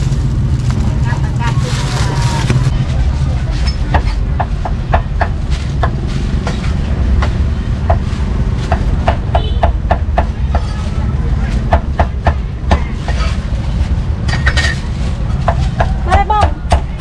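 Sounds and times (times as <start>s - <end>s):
low rumble of street noise: 0.0s - 17.0s.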